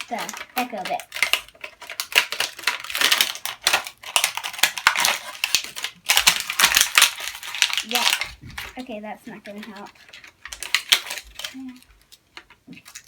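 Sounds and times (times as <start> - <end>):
plastic crackling: 0.0 - 13.0
scissors cutting plastic packaging: 0.0 - 13.0.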